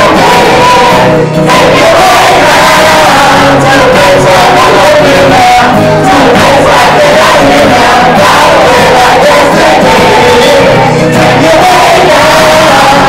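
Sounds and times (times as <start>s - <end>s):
acoustic guitar: 0.0s - 13.0s
audience singing and shouting: 0.0s - 13.0s
man singing: 0.0s - 13.0s.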